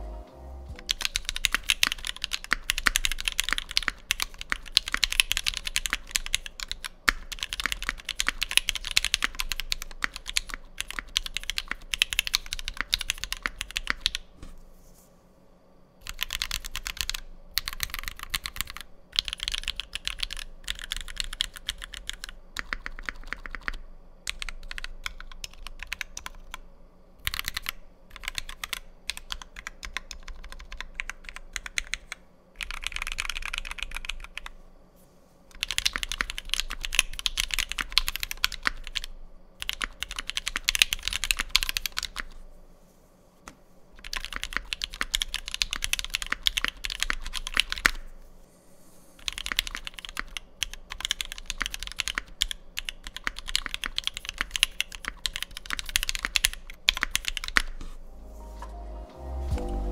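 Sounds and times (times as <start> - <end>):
mechanical keyboard typing: 0.8 - 14.2, 16.0 - 26.6, 27.2 - 34.5, 35.5 - 42.4, 44.0 - 48.0, 49.2 - 57.8.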